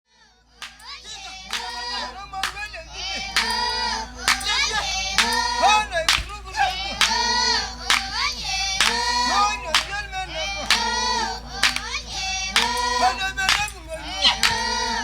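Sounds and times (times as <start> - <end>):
voices singing together: 0.1 - 15.0
hand claps: 0.5 - 15.0.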